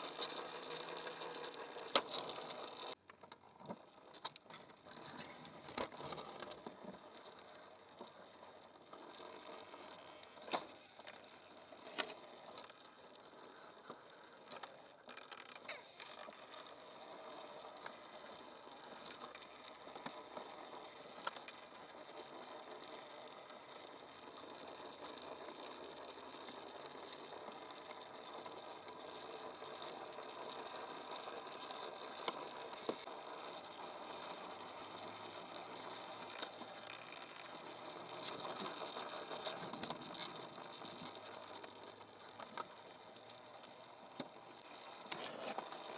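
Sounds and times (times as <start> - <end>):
small electric motor whirring: 0.0 - 3.0, 3.8 - 45.9.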